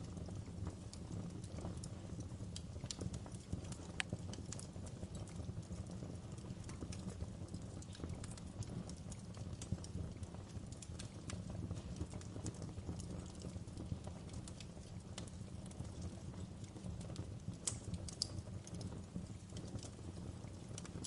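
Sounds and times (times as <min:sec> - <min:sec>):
low rumble of flames: 0:00.0 - 0:21.0
wood crackling and snapping: 0:00.2 - 0:05.4, 0:06.3 - 0:16.8, 0:17.4 - 0:21.0.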